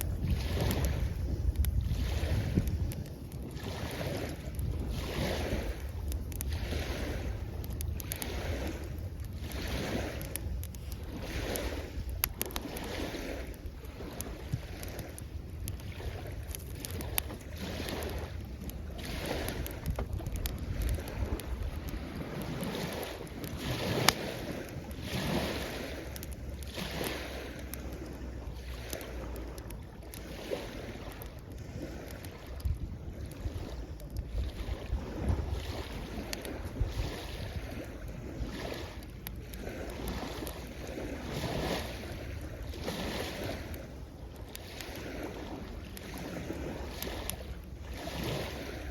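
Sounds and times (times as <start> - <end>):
campfire crackling and popping: 0.0 - 48.9
small waves washing on shore: 0.0 - 48.9
wind buffeting microphone: 0.0 - 48.9.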